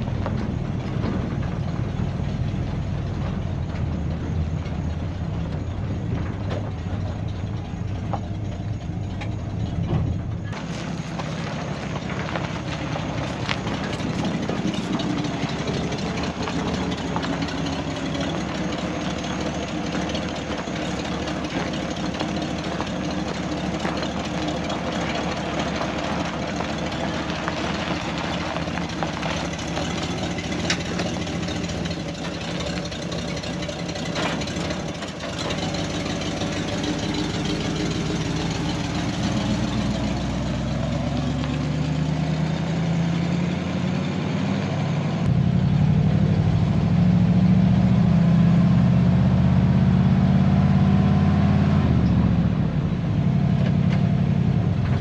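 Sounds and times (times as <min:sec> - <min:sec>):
pickup truck engine running: 0:00.0 - 0:55.0.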